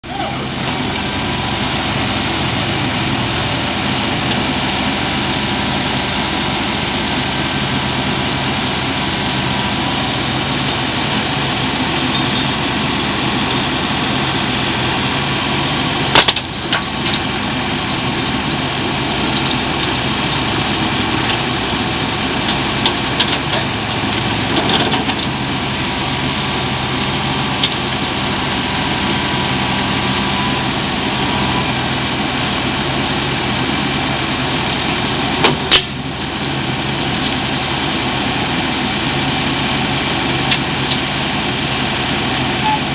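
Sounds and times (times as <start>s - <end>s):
diesel engines running: 0.0s - 42.9s.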